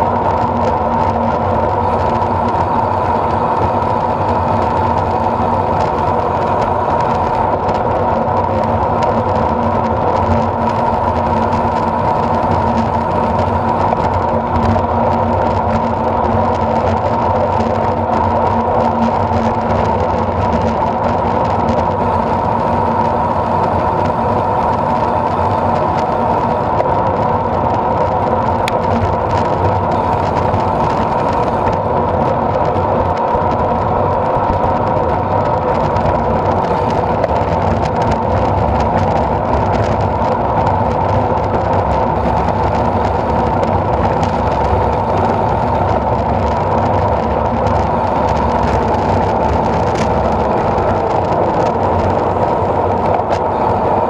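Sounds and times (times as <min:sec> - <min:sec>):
bike tyres rolling on asphalt: 0:00.0 - 0:54.0
wind rushing over microphone: 0:00.0 - 0:54.0.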